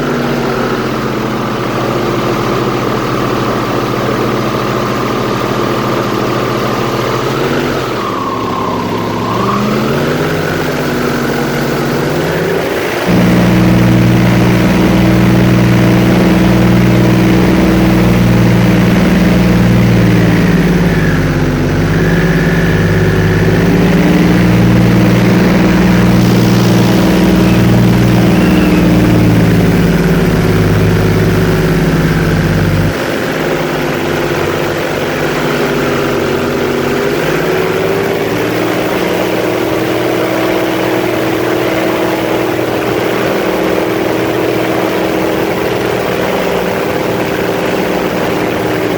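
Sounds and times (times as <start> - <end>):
airboat engine and propeller: 0.0 - 48.9.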